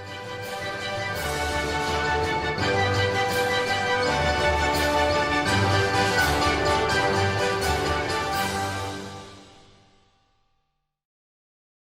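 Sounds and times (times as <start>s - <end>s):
background music: 0.0s - 10.4s.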